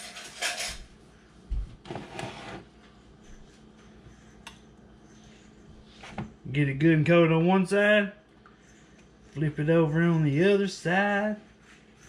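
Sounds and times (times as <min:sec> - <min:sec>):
faint hum: 0:00.1 - 0:12.0.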